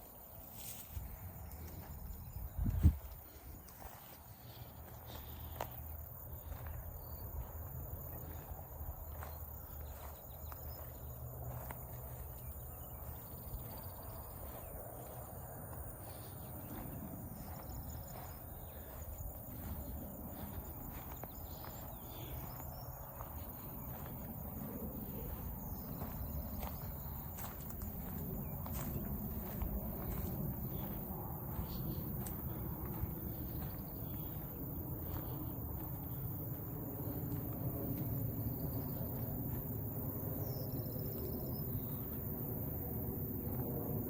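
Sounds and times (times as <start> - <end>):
insects: 0.0 - 44.0.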